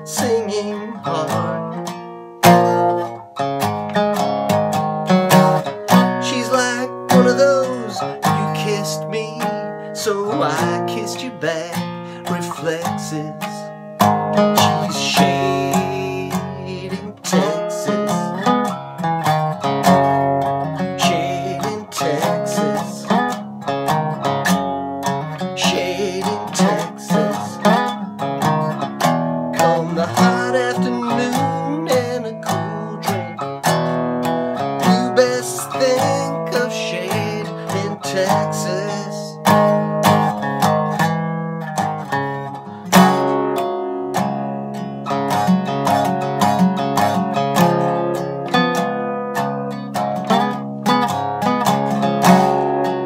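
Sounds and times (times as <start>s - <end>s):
guitar strummed and picked: 0.0s - 53.0s.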